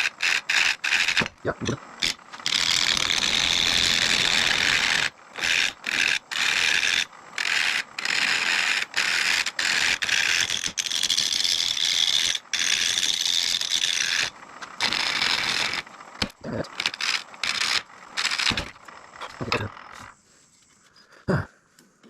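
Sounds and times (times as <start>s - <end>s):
gouge cutting wood on lathe: 0.0s - 20.1s.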